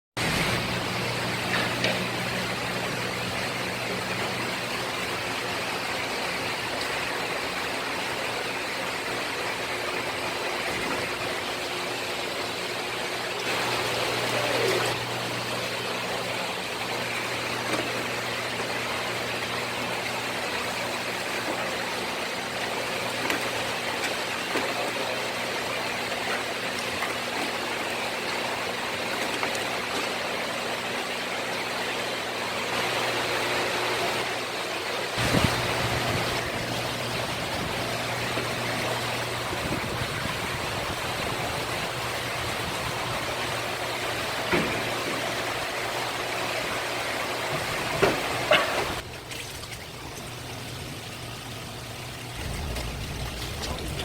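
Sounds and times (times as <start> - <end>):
low machine hum: 0.2 - 54.0
water-like rushing noise: 0.2 - 54.0.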